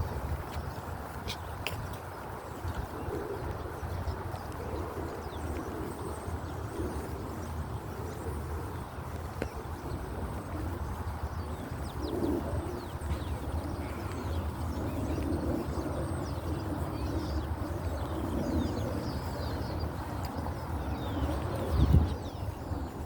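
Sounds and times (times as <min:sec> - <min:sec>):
wind buffeting microphone: 0:00.0 - 0:23.0
small birds chirping: 0:00.4 - 0:23.0.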